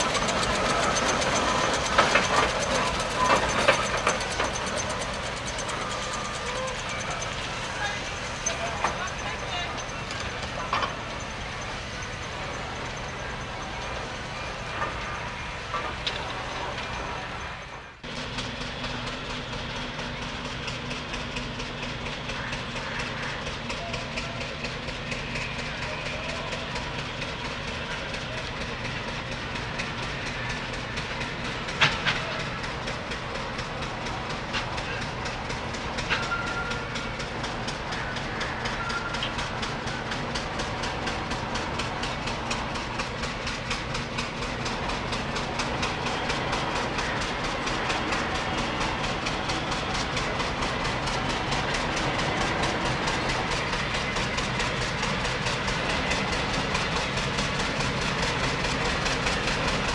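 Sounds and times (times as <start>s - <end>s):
steam engine chuffing: 0.0s - 59.9s.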